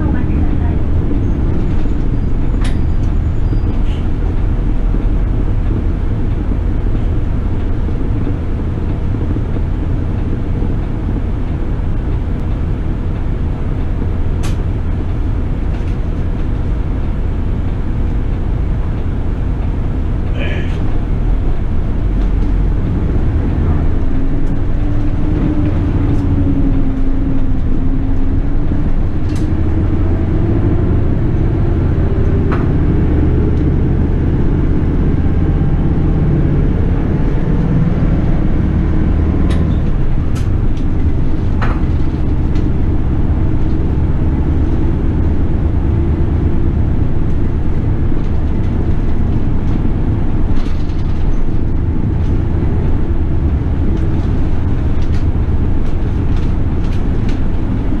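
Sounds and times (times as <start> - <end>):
rattles and clicks: 0.0 - 32.7, 39.2 - 58.0
bus engine and road rumble: 0.0 - 58.0.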